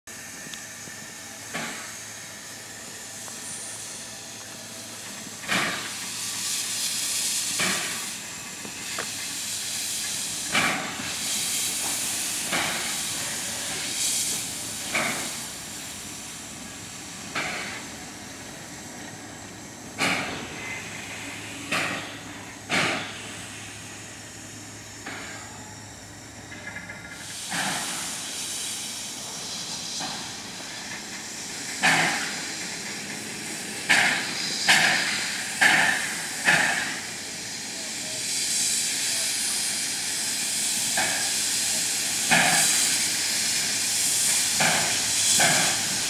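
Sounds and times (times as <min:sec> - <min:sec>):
steam hissing: 0:00.1 - 0:46.0
steam locomotive exhaust chuffs: 0:00.1 - 0:46.0.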